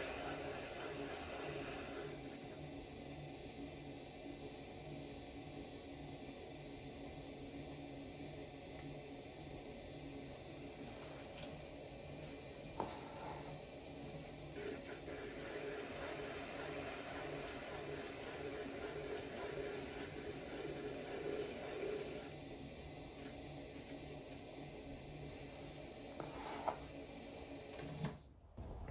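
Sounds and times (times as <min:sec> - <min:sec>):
pottery wheel humming: 0:00.0 - 0:28.9
thin high whine: 0:00.0 - 0:28.9.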